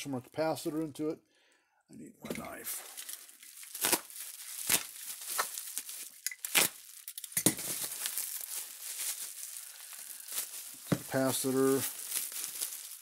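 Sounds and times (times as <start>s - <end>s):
crinkling and rustling: 2.2s - 13.0s.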